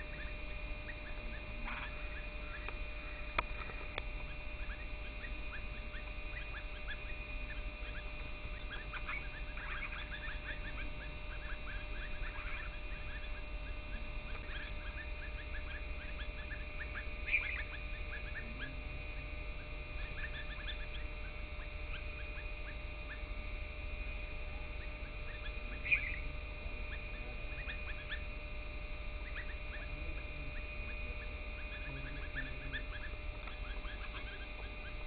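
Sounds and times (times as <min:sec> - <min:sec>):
constant low rumble: 0:00.0 - 0:35.0
loud bird calls: 0:00.0 - 0:35.0
small birds chirping: 0:00.0 - 0:35.0.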